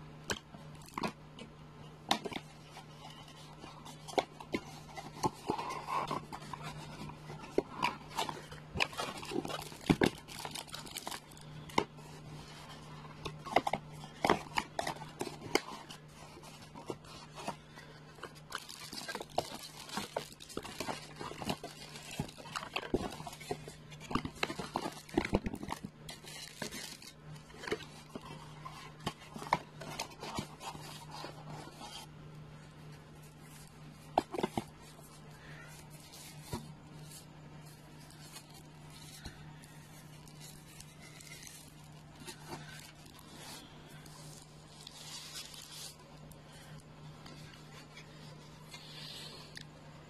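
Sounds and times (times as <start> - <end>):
steady low hum: 0.0 - 50.0
cardboard packaging rustling: 0.3 - 49.6.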